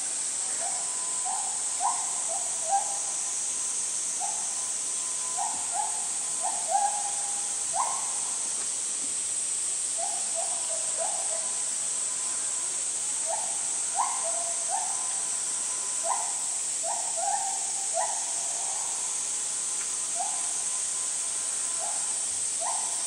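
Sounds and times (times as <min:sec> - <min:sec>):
steady high hiss: 0:00.0 - 0:23.0.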